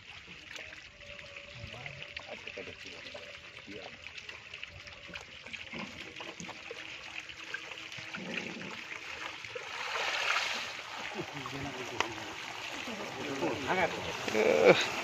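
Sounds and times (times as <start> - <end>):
muddy water sloshing: 0.0 - 15.0
rush of water: 0.0 - 15.0
small splashes and clicks: 1.8 - 15.0.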